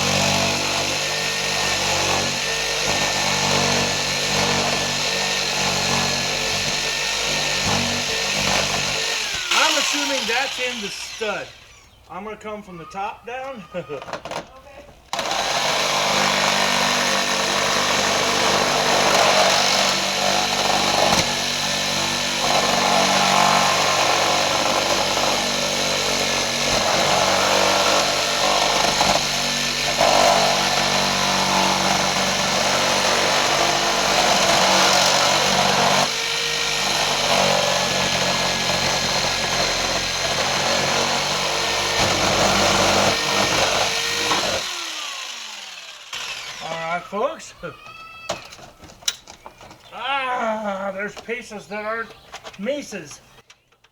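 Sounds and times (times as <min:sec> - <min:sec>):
electric power saw cutting: 0:00.0 - 0:12.0, 0:15.1 - 0:47.3.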